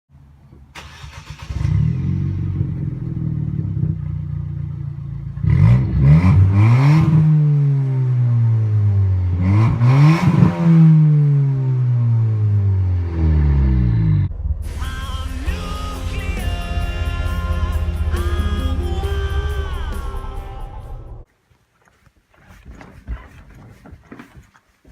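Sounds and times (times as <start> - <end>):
car engine starting: 0.2 - 21.3
car engine idling and revving: 0.5 - 21.3.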